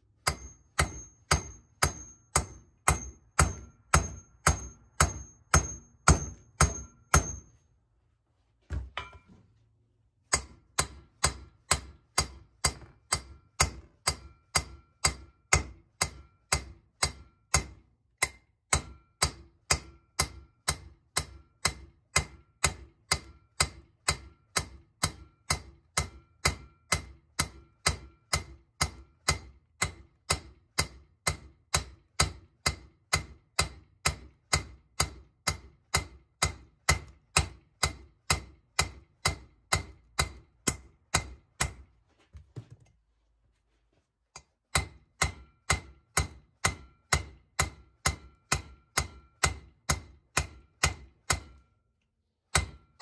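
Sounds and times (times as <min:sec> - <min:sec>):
hammer tapping on metal: 0:00.1 - 0:07.7, 0:08.7 - 0:09.4, 0:10.3 - 0:42.0, 0:44.4 - 0:51.8, 0:52.5 - 0:53.0.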